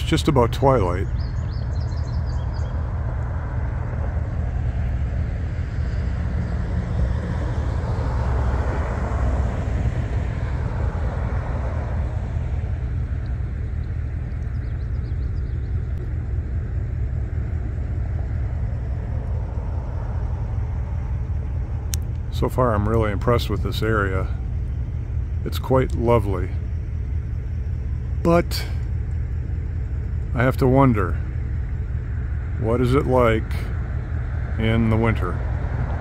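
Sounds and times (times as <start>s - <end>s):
vehicle passing: 0.0s - 29.0s, 29.9s - 36.0s
road traffic rumble: 0.0s - 36.0s.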